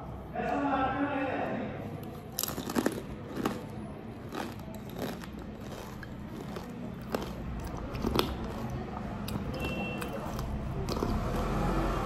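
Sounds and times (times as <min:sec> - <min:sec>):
crunchy chewing: 0:02.0 - 0:11.9.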